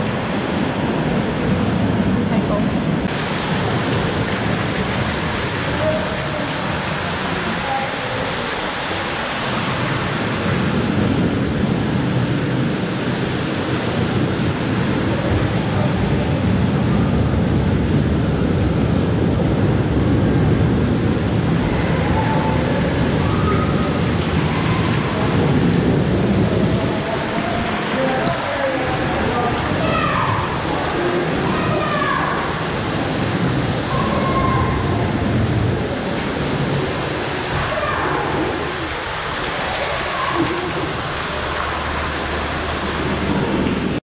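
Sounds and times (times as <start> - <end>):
water falling and splashing: 0.0 - 44.0.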